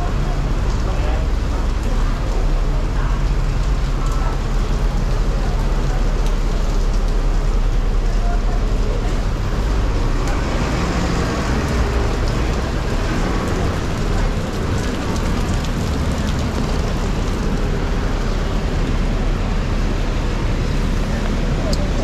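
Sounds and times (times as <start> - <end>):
steady rain: 0.0 - 22.0
traffic on a wet road: 0.0 - 22.0.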